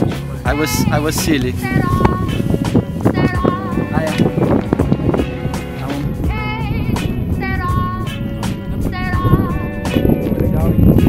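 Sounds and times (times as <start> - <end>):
melody with vibrato over steady beat: 0.0 - 11.0.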